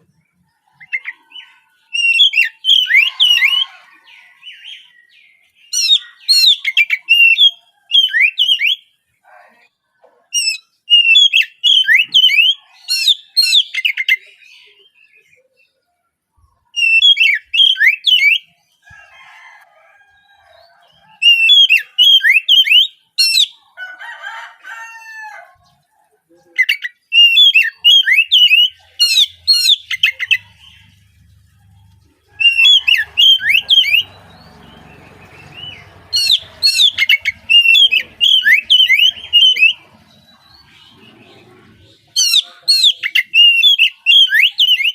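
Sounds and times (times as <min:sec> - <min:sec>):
quiet bird calls: 0:00.0 - 0:19.1, 0:25.5 - 0:44.9.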